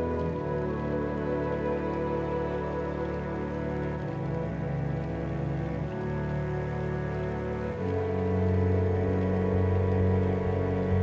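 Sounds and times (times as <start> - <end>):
slow ambient instrumental music: 0.0 - 11.0.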